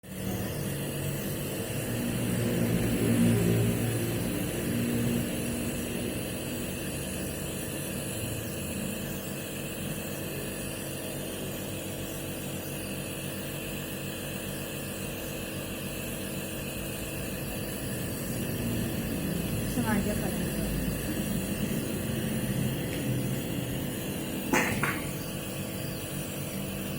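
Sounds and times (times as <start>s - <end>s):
nebulizer motor hum: 0.0s - 26.9s.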